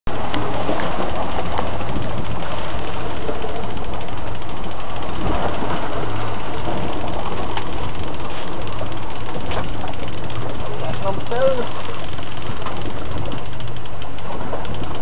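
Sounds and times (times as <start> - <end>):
boat engine humming: 0.1 - 15.0.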